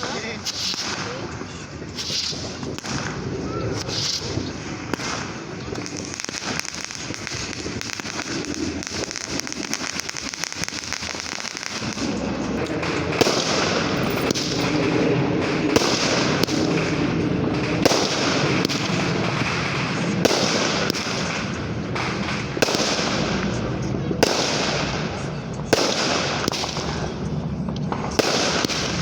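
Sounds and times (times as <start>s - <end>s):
fireworks hissing: 0.0s - 14.9s, 15.5s - 29.0s
firework bangs: 0.0s - 29.0s
fireworks crackling: 0.0s - 29.0s.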